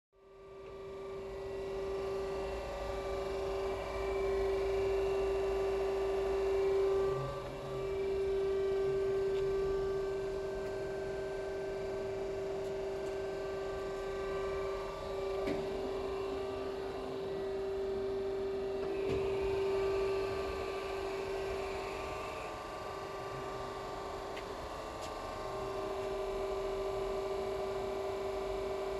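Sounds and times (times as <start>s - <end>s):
grinder machine hum: 0.3s - 28.9s.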